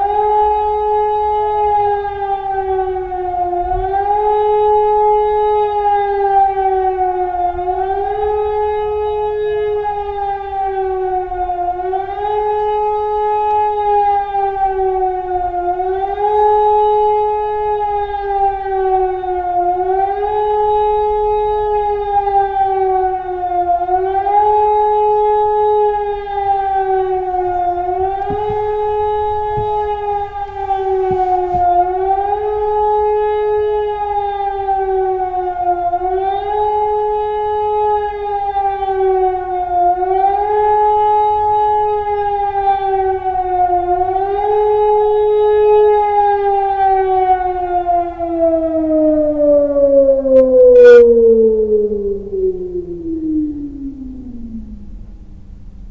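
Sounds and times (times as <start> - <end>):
civil defence siren howling: 0.0 - 55.9.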